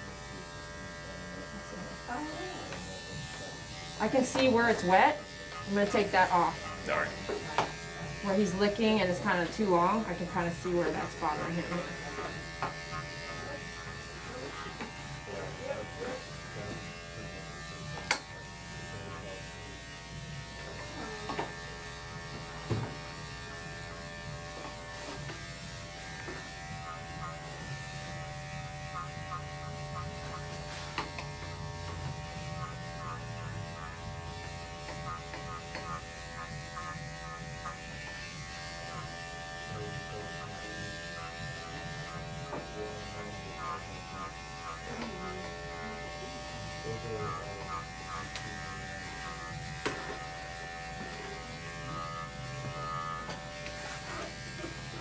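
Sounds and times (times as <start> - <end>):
electric clippers humming: 0.0 - 55.0.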